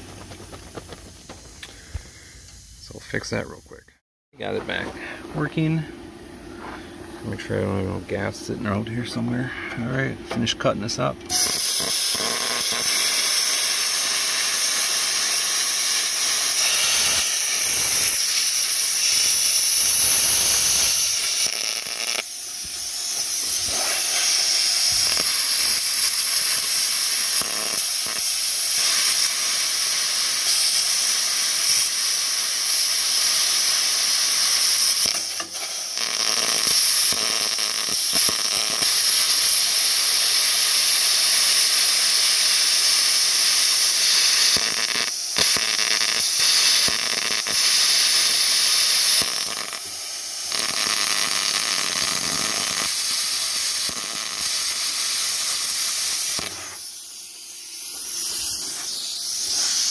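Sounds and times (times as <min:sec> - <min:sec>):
plasma cutter hissing: 0:11.3 - 0:59.9.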